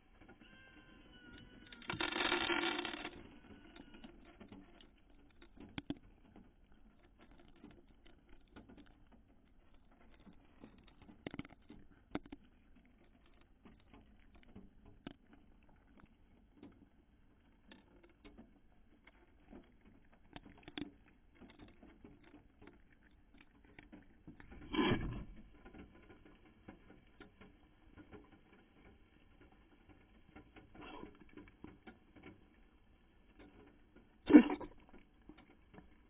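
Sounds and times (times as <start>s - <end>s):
cat moving and feeding clicks: 0.0s - 36.0s.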